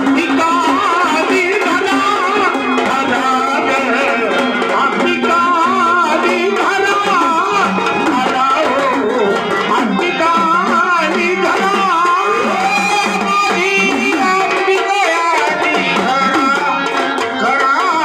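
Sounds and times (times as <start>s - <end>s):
folk drum rhythm: 0.0s - 18.0s.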